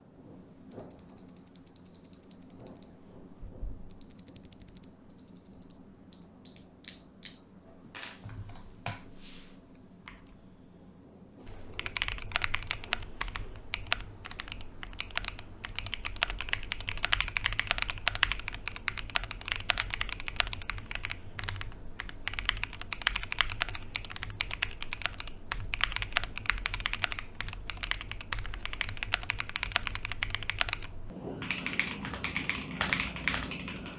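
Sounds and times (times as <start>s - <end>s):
mechanical keyboard typing: 0.7s - 3.0s, 3.9s - 7.4s, 11.5s - 33.9s.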